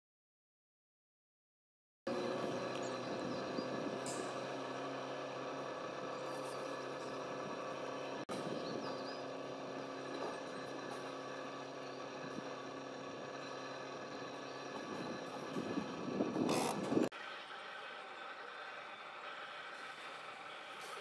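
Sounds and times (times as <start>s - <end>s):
engine droning: 2.1s - 21.0s.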